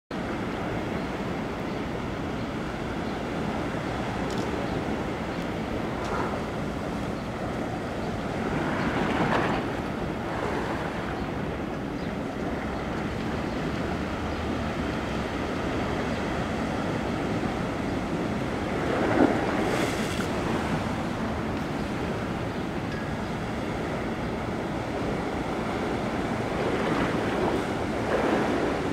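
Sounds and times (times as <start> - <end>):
ocean waves washing on shore: 0.1 - 28.9.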